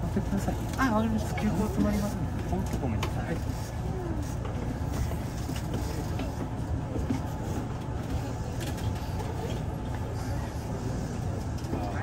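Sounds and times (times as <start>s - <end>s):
faint passengers' voices: 0.0s - 12.0s
train interior rumble: 0.0s - 12.0s.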